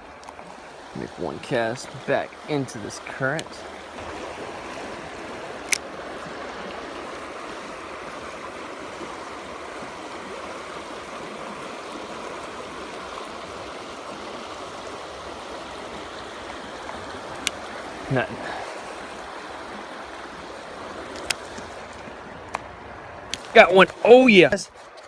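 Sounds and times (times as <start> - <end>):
creek water flowing: 0.0 - 25.0.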